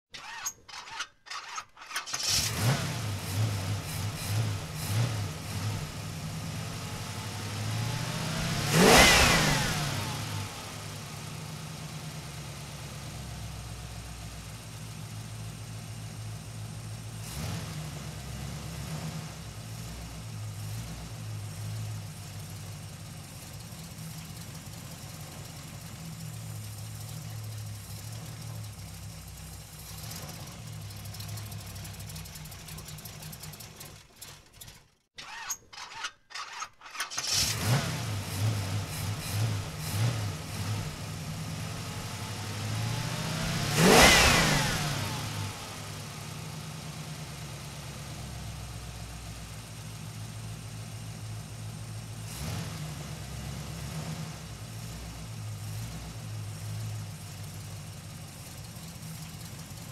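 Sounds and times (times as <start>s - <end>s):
car engine cranking and revving: 0.0s - 59.9s
car engine idling: 2.3s - 8.9s, 9.5s - 35.0s, 37.2s - 44.0s, 44.6s - 52.3s, 52.9s - 59.9s.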